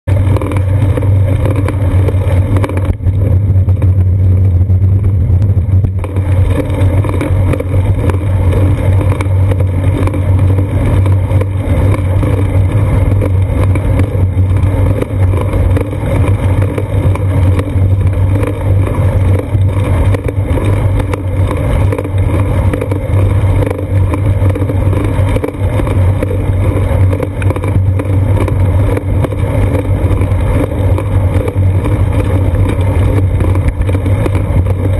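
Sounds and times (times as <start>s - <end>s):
wind and road vibration rumble: 0.0s - 34.9s.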